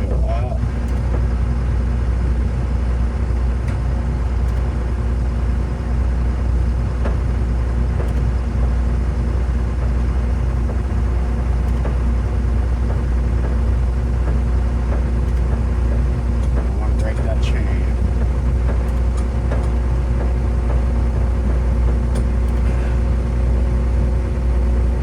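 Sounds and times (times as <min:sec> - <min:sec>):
machine engine humming: 0:00.0 - 0:25.0.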